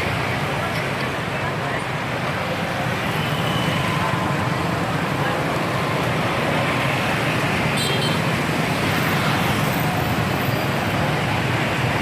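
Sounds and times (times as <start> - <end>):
motorbikes and scooters passing: 0.0 - 12.0.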